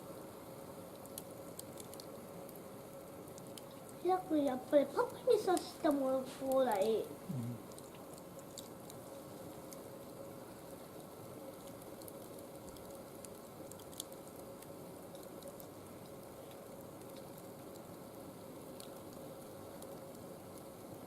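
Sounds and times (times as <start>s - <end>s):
fire hissing: 0.0s - 21.0s
small fire crackling: 0.0s - 21.0s.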